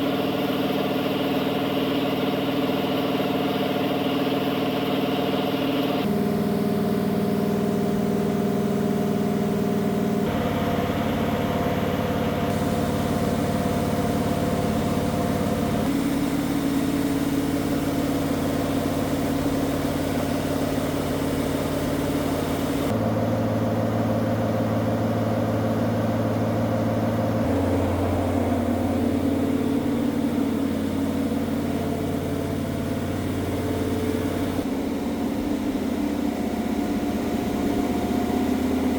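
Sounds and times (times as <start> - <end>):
race car engine on dyno: 0.0 - 38.9.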